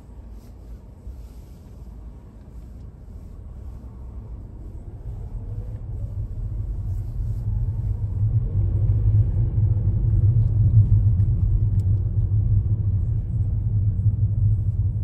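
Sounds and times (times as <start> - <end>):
car driving rumble: 0.0 - 15.0
faint rising whine: 0.0 - 15.0.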